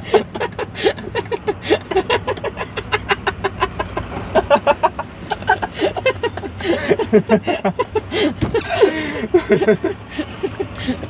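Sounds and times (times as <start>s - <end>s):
men laughing hard: 0.0s - 11.0s.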